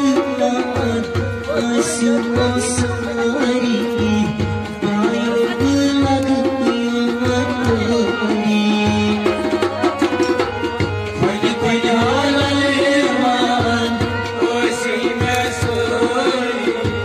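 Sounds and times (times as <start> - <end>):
hand drum beating: 0.0 - 17.0
harmonium playing: 0.0 - 17.0.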